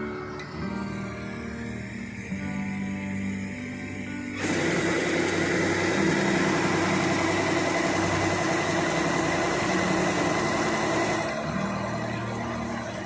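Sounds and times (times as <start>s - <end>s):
combine harvester drone: 0.0s - 13.0s
high machine whine: 0.0s - 13.0s.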